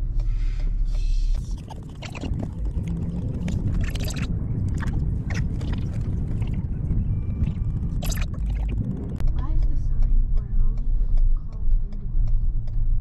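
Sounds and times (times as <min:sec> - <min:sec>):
car driving rumble in cabin: 0:00.0 - 0:13.0
steady hum: 0:00.0 - 0:13.0.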